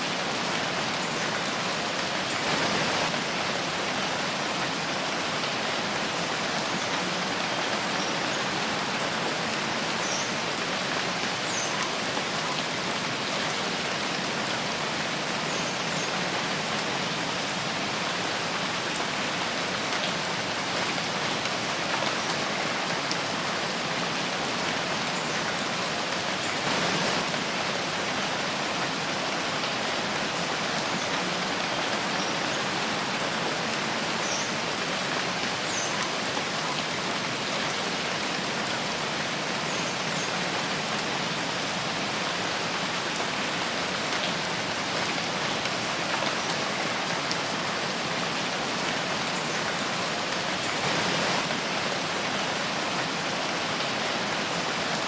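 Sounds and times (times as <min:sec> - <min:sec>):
rain falling in a forest: 0:00.0 - 0:55.0.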